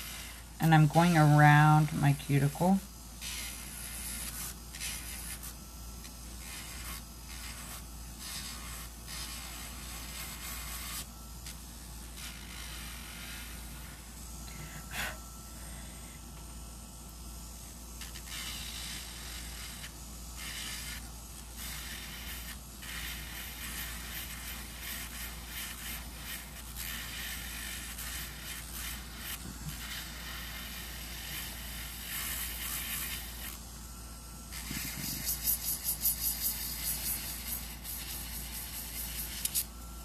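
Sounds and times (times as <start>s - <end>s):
electric nail drill grinding: 0.0s - 40.0s.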